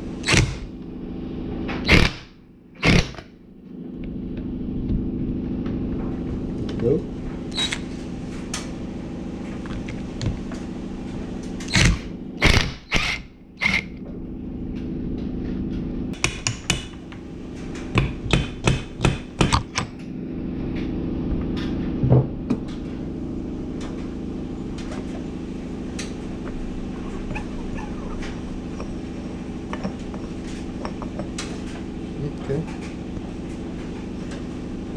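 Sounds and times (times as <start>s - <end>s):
low hum: 0.0s - 34.9s.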